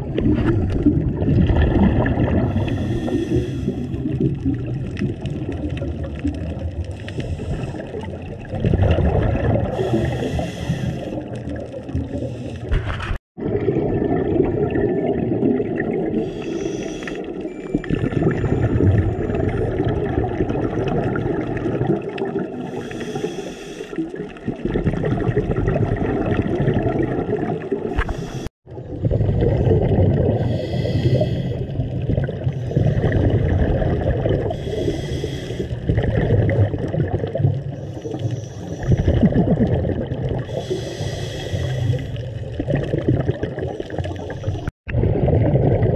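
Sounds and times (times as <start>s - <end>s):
muffled underwater rumble: 0.0s - 45.9s
regulator bubbles gurgling: 0.0s - 45.9s.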